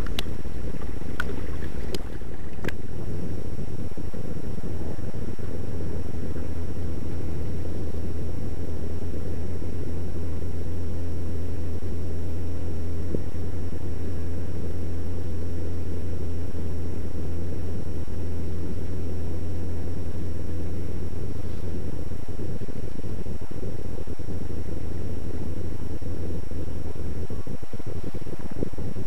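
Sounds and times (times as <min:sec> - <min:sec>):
faint high-pitched whine: 0:00.0 - 0:29.0
low rumble: 0:00.0 - 0:29.0
noisy haze: 0:00.0 - 0:29.0.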